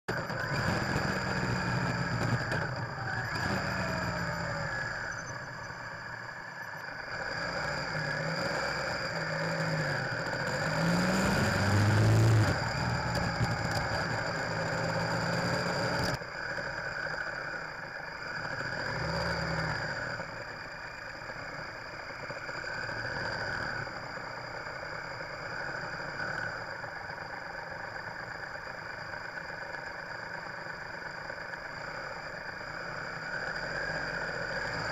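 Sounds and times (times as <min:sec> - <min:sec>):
motorcycle engine revving: 0:00.1 - 0:34.9
road and wind noise: 0:00.1 - 0:34.9.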